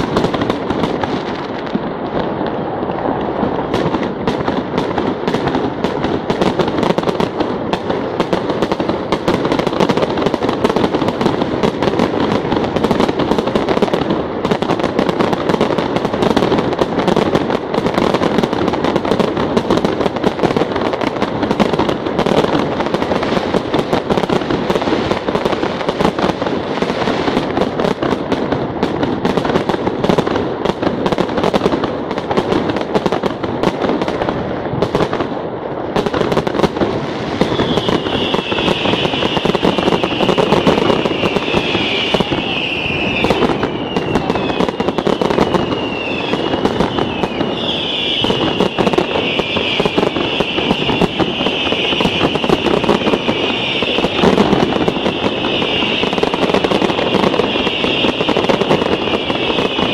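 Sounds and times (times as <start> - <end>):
fireworks crackling: 0.0 - 59.9.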